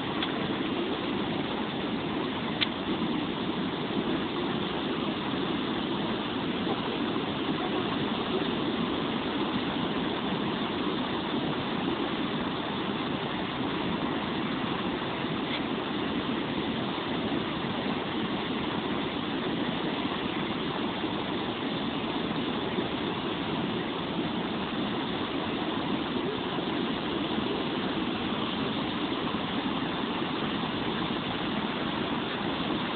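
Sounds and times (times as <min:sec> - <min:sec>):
floodwater rushing: 0:00.0 - 0:32.9.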